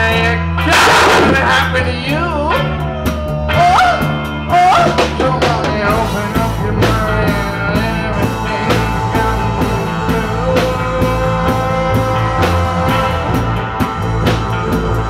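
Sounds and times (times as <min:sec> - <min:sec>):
person singing: 0:00.0 - 0:15.0
reggae band playing live: 0:00.0 - 0:15.0.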